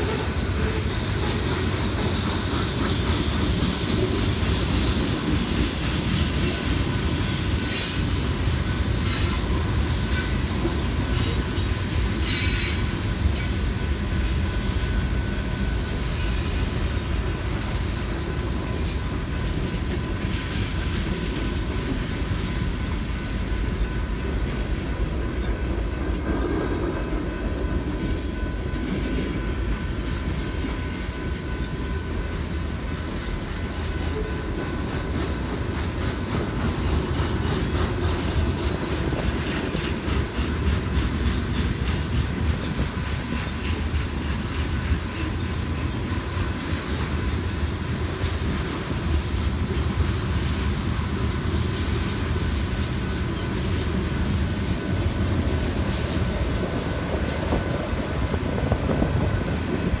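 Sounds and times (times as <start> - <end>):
freight train rumbling past: 0.0 - 60.0.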